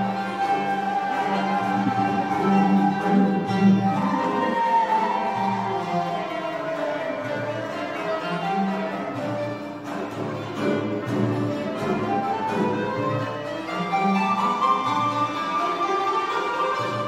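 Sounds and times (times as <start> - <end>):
small instrumental ensemble: 0.0 - 17.0.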